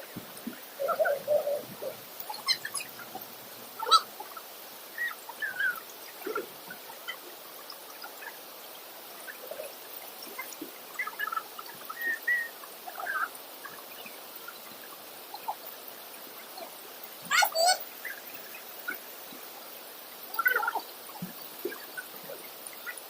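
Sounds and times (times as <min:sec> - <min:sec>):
birds chirping: 0:00.0 - 0:19.6
background hiss: 0:00.0 - 0:23.0.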